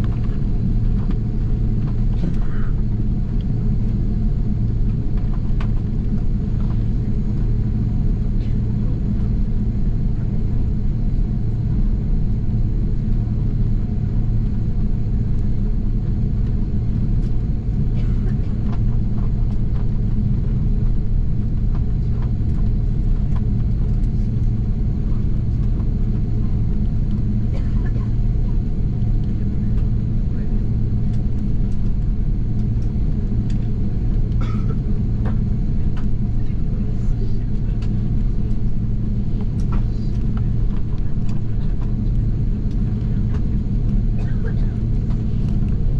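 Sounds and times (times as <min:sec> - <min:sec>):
airliner cabin engine hum: 0:00.0 - 0:45.9.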